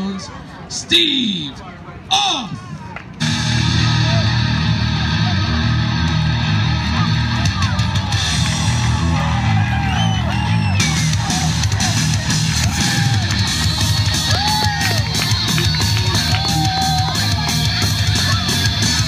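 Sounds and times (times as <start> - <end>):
rock music over speaker: 3.1 - 19.0.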